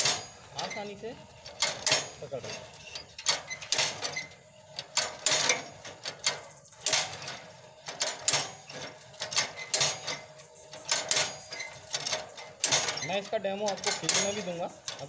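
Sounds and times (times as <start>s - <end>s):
transplanter mechanism clacking: 0.0s - 15.0s.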